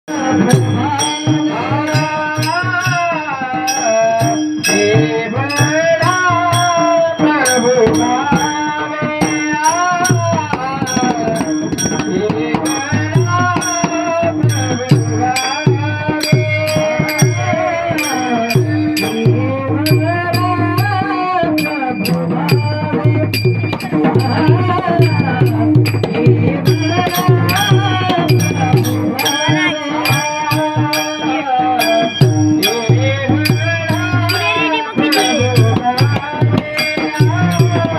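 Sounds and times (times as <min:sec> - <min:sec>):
held instrumental notes: 0:00.1 - 0:37.9
low hand drum: 0:00.1 - 0:37.9
person singing devotional melody: 0:00.1 - 0:37.9
small hand cymbals: 0:00.1 - 0:37.9.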